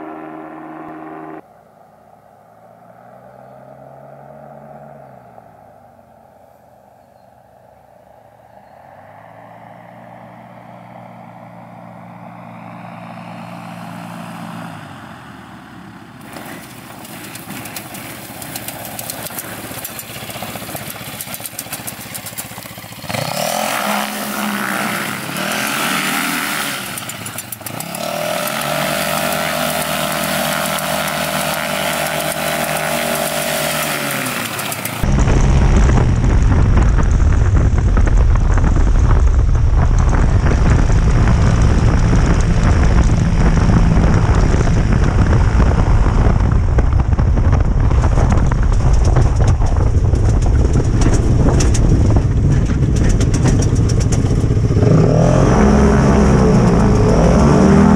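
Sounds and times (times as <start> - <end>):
ultralight airplane engine: 0.0 - 2.5, 5.4 - 57.9.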